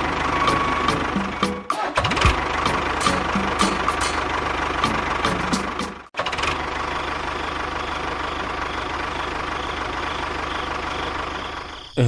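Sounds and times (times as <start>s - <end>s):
small engine idling: 0.0s - 11.9s.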